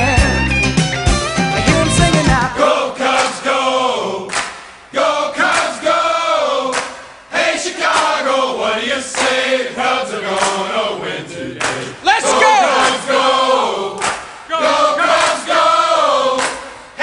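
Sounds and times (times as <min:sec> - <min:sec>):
crowd singing a chant: 0:02.0 - 0:17.0.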